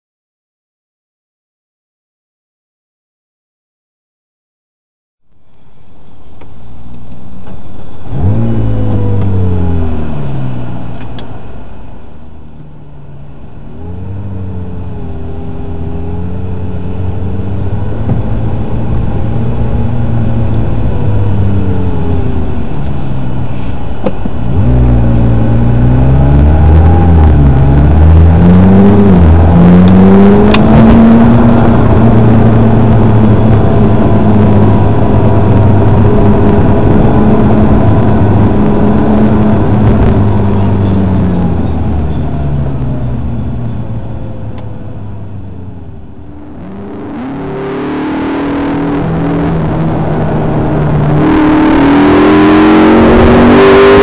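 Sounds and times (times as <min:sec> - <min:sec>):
car engine revving and idling: 0:05.4 - 0:54.0.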